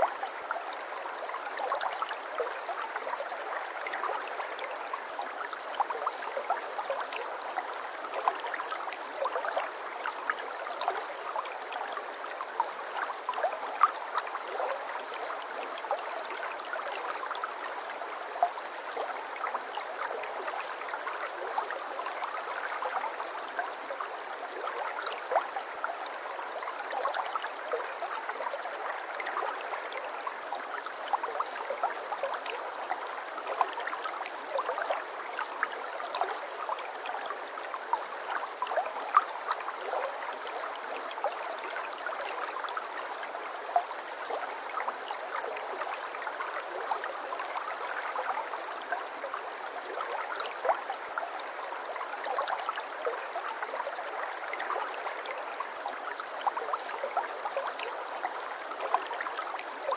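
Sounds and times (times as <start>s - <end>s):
brook water gurgling over stones: 0.0s - 59.9s.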